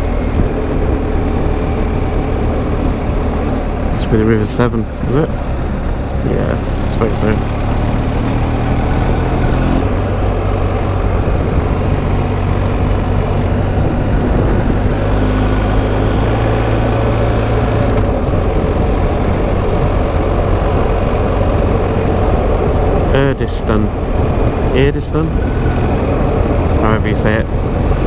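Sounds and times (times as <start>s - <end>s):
motorcycle engine running: 0.0s - 28.0s
wind rush and road noise: 0.0s - 28.0s.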